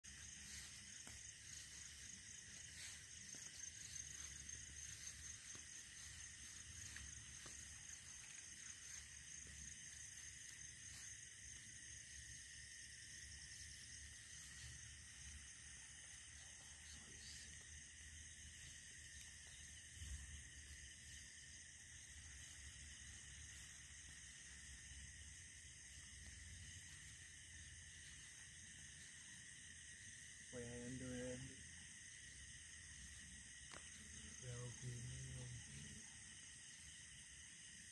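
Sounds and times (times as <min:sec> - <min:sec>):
night insects trilling: 0:00.0 - 0:37.9
rapidly pulsing insect trill: 0:00.0 - 0:37.9.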